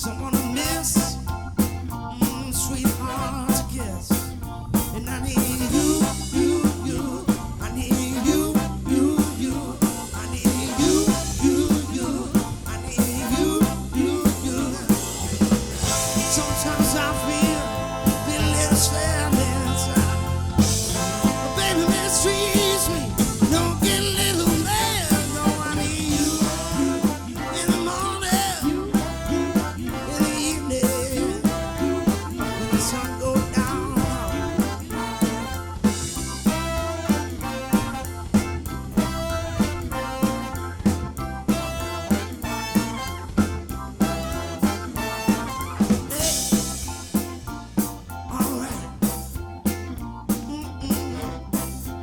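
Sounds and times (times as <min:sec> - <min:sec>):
drum kit beat: 0:00.0 - 0:52.0
soul band playing: 0:00.0 - 0:52.0.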